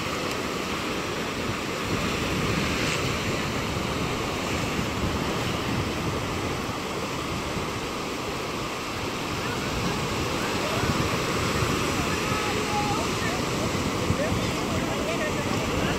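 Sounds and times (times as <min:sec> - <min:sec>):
waves washing up sandy beach: 0:00.0 - 0:15.9
wind buffeting microphone: 0:00.0 - 0:15.9.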